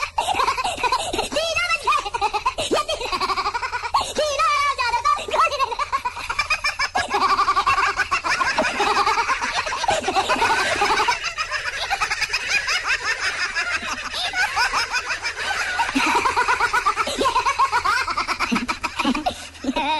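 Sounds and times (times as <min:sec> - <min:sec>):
high-pitched laughing and giggling: 0:00.0 - 0:19.9.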